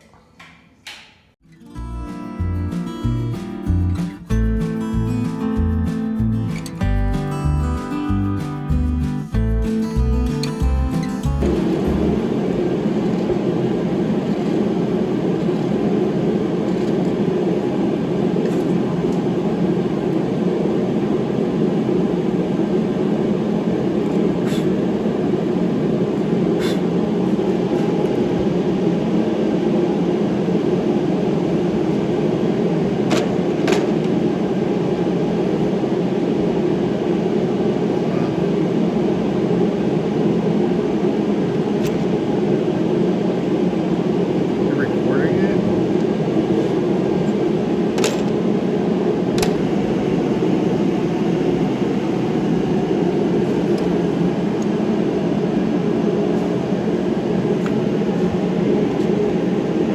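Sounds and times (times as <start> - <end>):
steady mechanical drone: 9.2 - 59.9.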